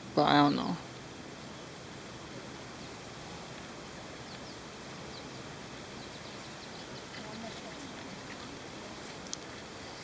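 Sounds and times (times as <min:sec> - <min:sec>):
light wind outdoors: 0:00.0 - 0:10.0.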